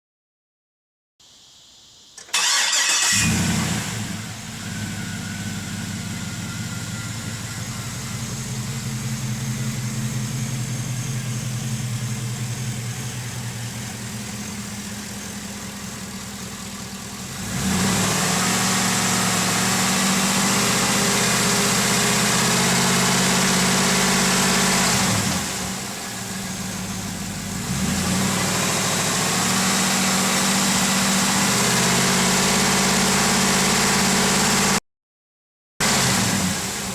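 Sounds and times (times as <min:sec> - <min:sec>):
car engine starting and idling: 0:02.2 - 0:34.8, 0:35.8 - 0:36.9.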